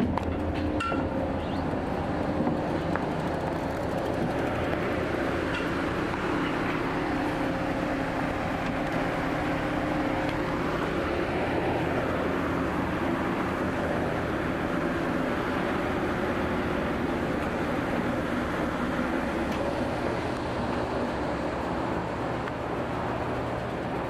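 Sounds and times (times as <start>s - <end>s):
engine drone: 0.0s - 24.0s
ferry hum: 0.0s - 24.0s
motorbikes and scooters: 0.0s - 24.0s.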